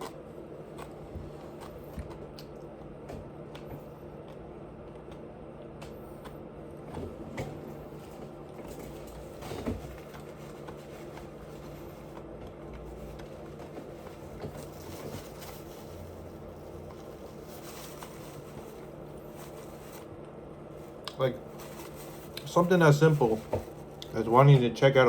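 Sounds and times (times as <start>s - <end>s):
soft chewing: 0.0s - 6.9s, 7.7s - 22.5s, 23.7s - 24.2s
low room hum: 0.0s - 25.0s.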